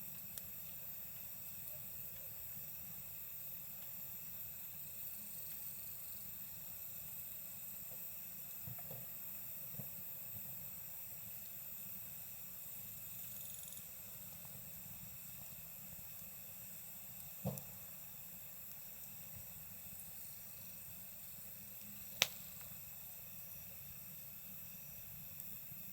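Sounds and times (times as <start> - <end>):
burning wood crackles: 0.0 - 13.2, 13.8 - 25.9
campfire hiss: 0.0 - 25.9
night insects trilling: 0.0 - 25.9.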